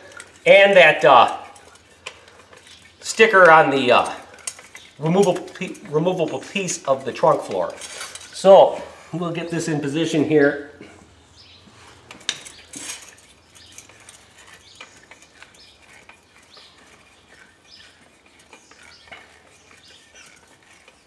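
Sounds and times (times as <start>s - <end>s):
car jack metal clinks and rattling: 0.0s - 10.2s, 10.8s - 21.0s.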